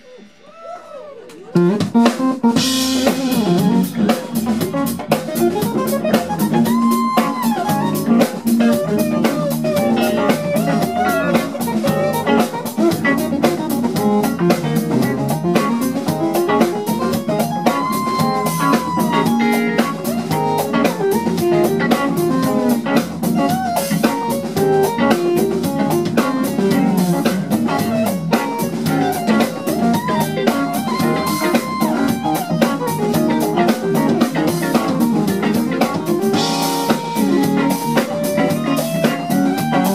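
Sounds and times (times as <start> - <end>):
keyboards: 0.0 - 39.9
percussion: 0.0 - 39.9
drum kit playing: 1.2 - 39.9
electric guitars: 1.5 - 39.9.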